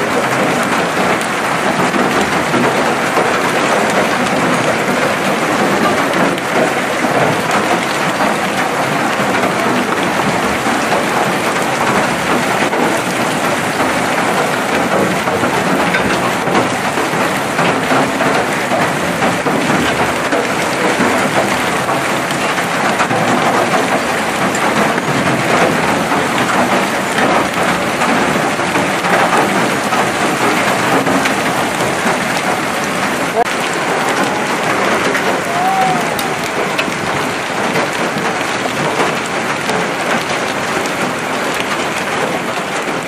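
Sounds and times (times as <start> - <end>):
hailstones pelting the ground: 0.0 - 43.0.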